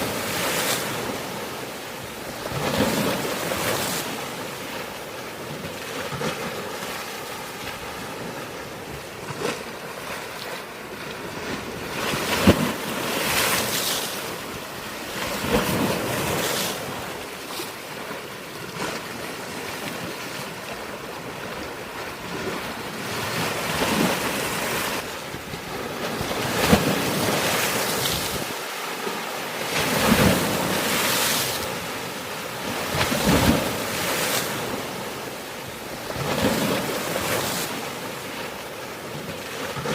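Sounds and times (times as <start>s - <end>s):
sea waves breaking on rocks: 0.0s - 39.9s.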